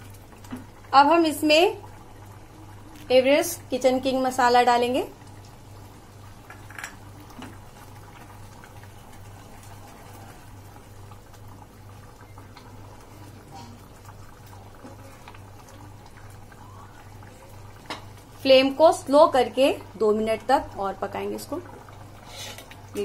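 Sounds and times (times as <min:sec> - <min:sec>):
gravy bubbling: 0:00.0 - 0:23.0
low steady hum: 0:00.0 - 0:23.0.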